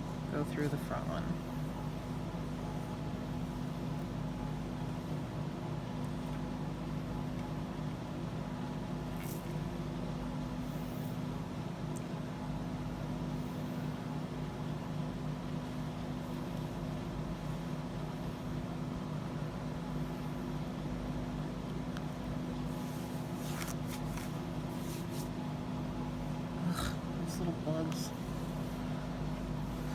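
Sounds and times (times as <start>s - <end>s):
house fan humming: 0.0s - 29.9s.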